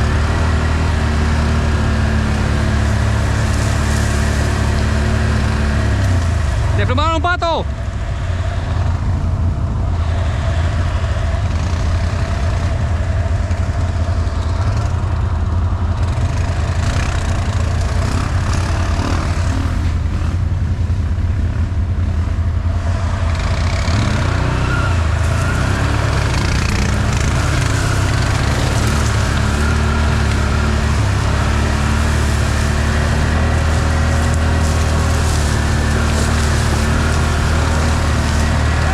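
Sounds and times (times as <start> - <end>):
off-road vehicle engine drone: 0.0 - 38.9.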